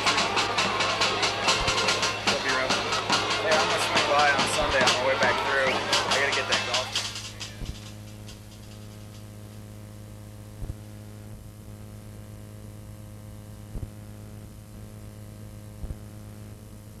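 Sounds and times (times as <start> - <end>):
electrical mains hum: 0.0 - 17.0
faint tape hiss: 0.0 - 17.0.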